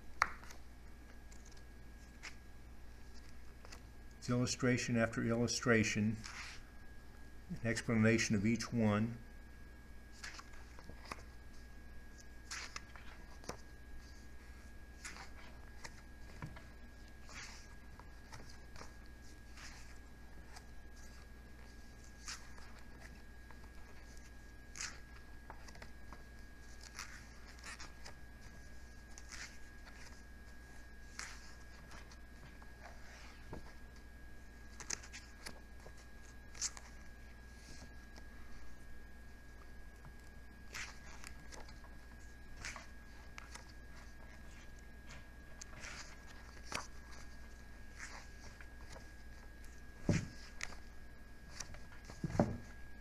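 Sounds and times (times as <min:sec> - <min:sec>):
book pages turning: 0:00.2 - 0:04.0, 0:06.2 - 0:06.7, 0:10.1 - 0:38.8, 0:39.5 - 0:53.0.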